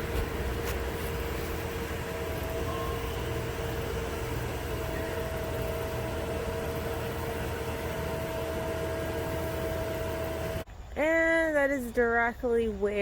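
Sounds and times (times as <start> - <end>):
faint constant tones: 0.0 - 13.0
mechanical hum: 0.0 - 13.0.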